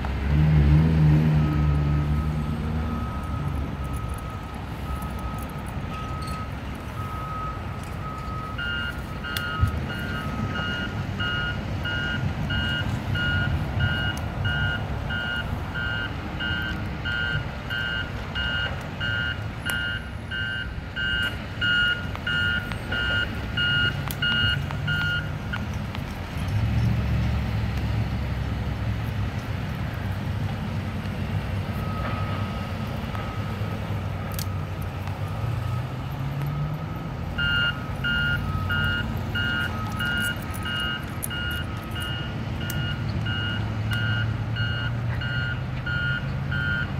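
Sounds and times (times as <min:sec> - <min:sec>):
heavy engine rumble: 0:00.0 - 0:46.9
low reversing alarm beeping: 0:01.6 - 0:25.7, 0:31.7 - 0:46.9.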